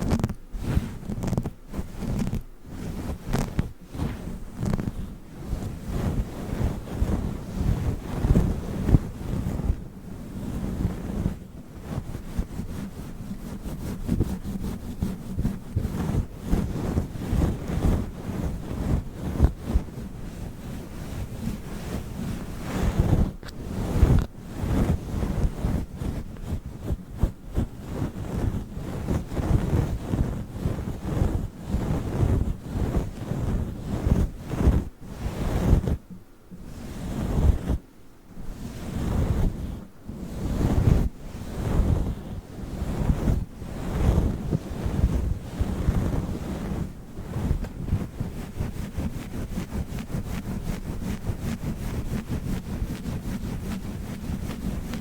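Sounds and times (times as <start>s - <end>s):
microphone windscreen being rubbed: 0.0s - 55.0s.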